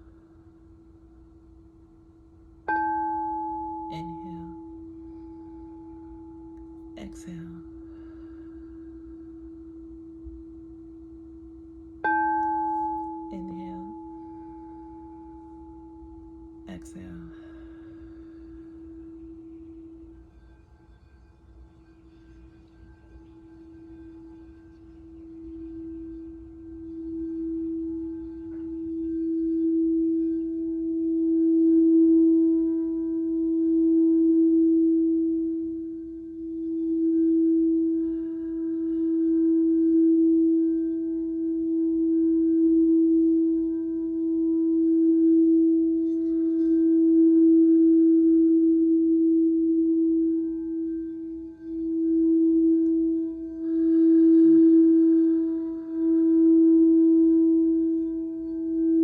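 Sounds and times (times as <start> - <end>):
singing bowl tone: 0.0 - 59.0.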